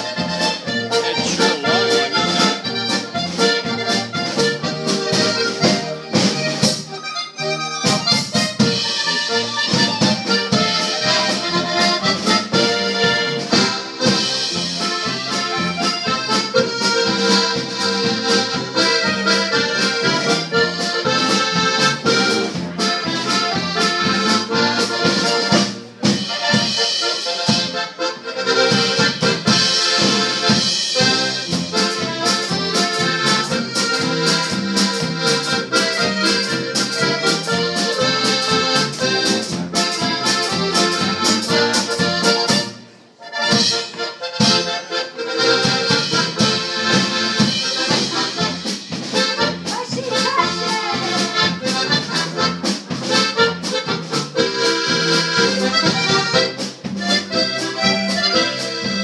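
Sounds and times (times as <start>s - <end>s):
accordions playing a polka: 0.0s - 59.0s.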